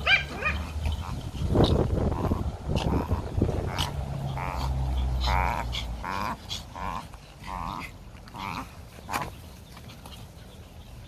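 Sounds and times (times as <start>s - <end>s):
small dogs barking: 0.0s - 9.5s.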